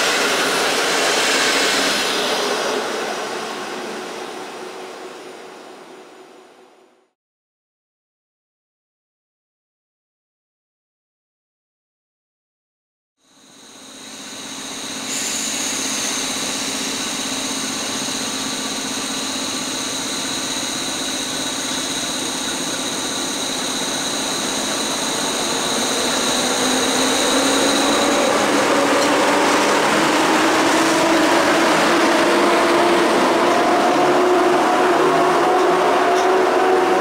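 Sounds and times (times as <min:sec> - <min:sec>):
train coaches rolling past: 0:00.0 - 0:06.8, 0:13.4 - 0:37.0
electric locomotive whine: 0:00.0 - 0:07.1, 0:13.2 - 0:37.0.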